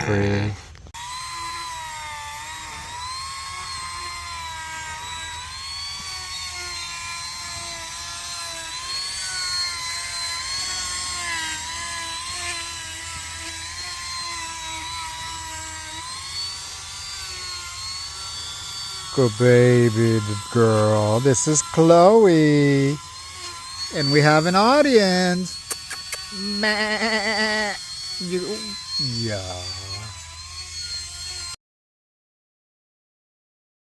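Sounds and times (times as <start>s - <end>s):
electric rotary tool whining: 0.0s - 31.6s.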